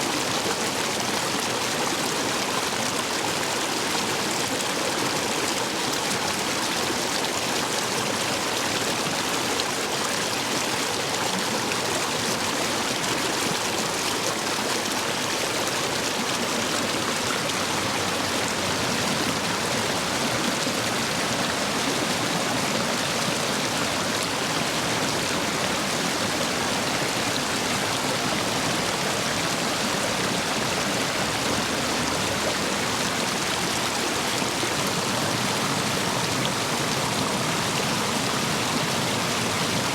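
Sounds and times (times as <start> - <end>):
stream water rushing over stones: 0.0 - 39.9.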